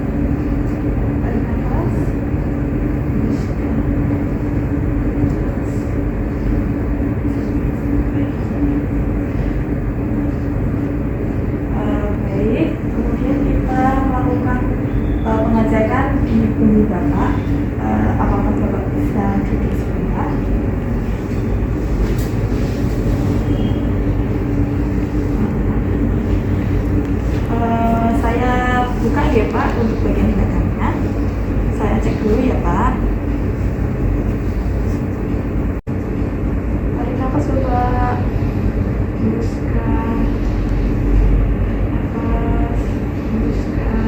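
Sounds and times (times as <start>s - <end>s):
constant hum: 0.0s - 44.0s
low rumbling noise: 0.0s - 44.0s.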